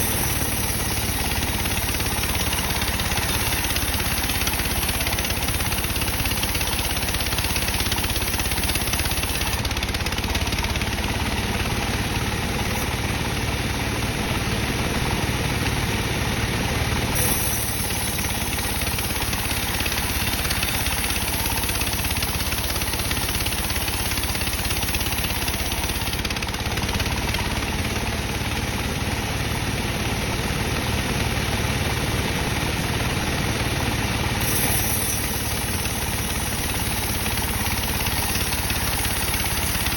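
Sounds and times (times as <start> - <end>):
bandsaw cutting wood: 0.0 - 13.6, 17.1 - 29.5, 31.6 - 39.9.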